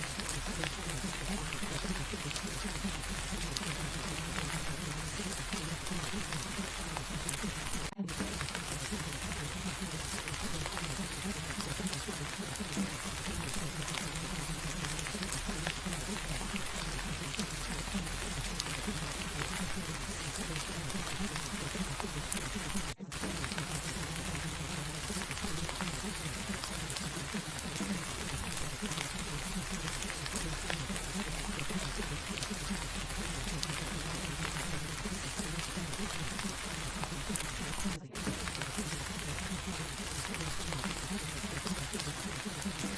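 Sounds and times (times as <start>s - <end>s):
faint low murmur: 0.0s - 42.9s
raindrop taps: 0.0s - 42.9s
steady rain: 0.0s - 42.9s.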